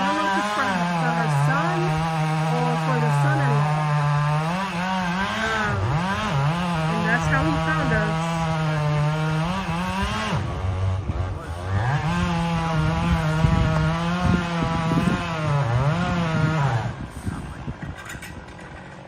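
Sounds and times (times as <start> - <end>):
chainsaw running at high revs: 0.0 - 19.0.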